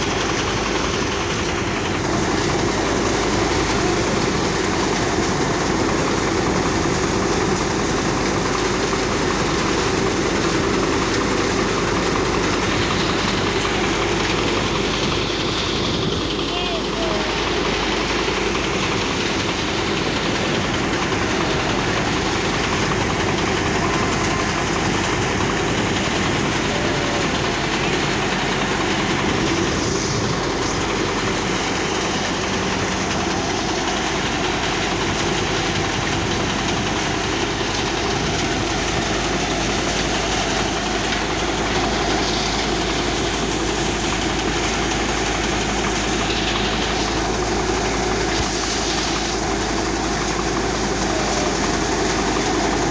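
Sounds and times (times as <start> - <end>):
thresher running: 0.0 - 52.9.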